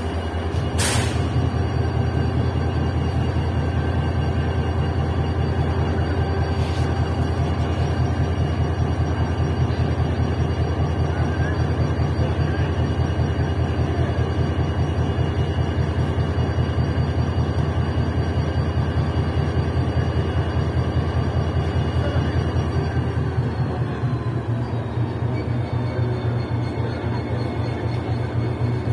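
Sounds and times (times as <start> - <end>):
diesel locomotive engine throbbing: 0.0 - 28.9.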